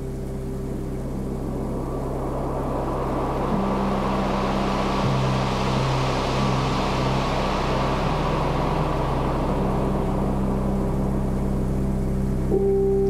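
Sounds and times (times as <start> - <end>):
hissing wash: 0.0 - 12.8
held synth notes: 0.0 - 13.0.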